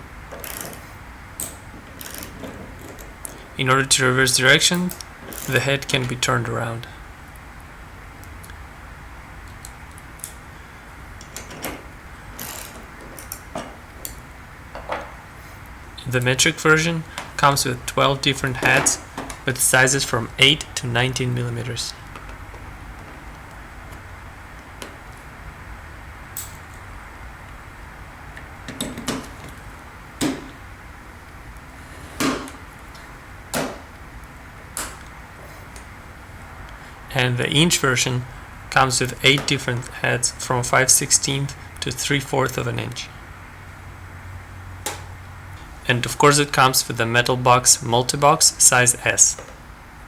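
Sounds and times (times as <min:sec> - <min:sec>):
steady low hiss: 0:00.0 - 0:50.0.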